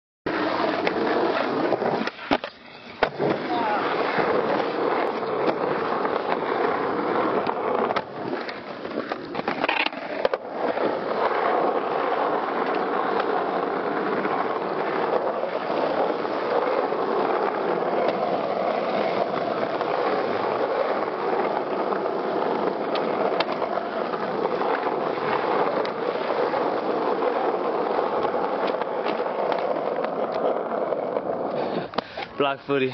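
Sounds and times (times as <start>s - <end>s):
skateboard clacks: 0.3s - 32.9s
skateboard wheels rolling on asphalt: 0.3s - 32.9s.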